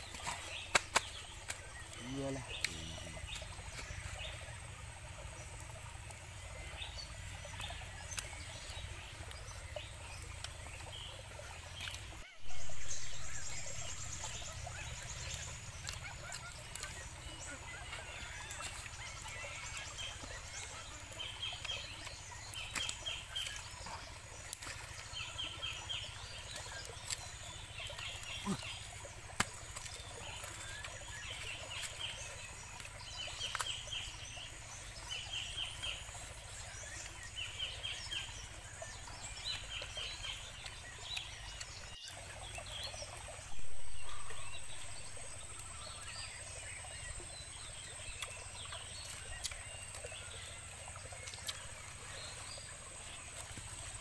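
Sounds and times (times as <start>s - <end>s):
small stream rushing: 0.0s - 54.0s.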